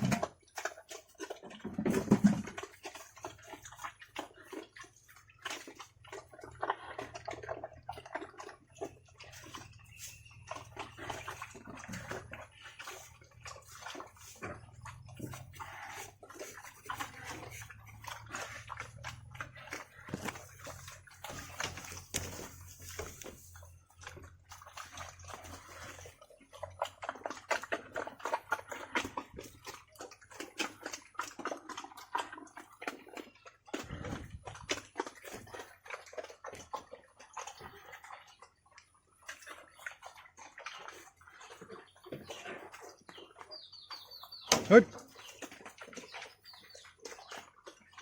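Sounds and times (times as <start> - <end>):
pigs eating wet feed: 0.0 - 48.0.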